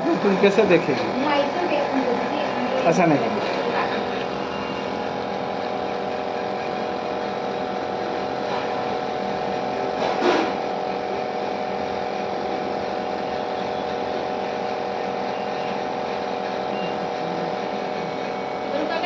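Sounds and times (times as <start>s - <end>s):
small motor humming: 0.0s - 19.0s.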